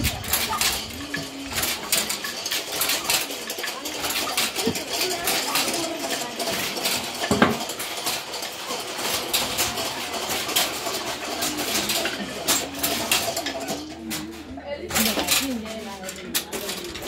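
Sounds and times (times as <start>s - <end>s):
wooden handlooms clacking: 0.0s - 17.0s.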